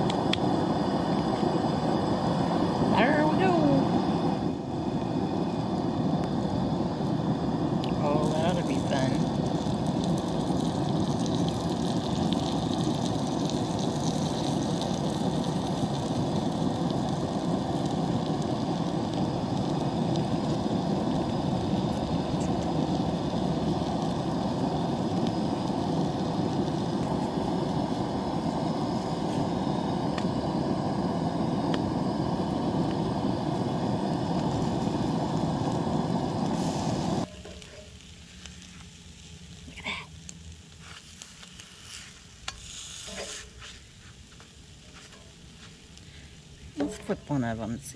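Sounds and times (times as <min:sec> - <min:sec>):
camp stove burner rushing: 0:00.0 - 0:47.9
quiet sizzle: 0:02.9 - 0:47.9.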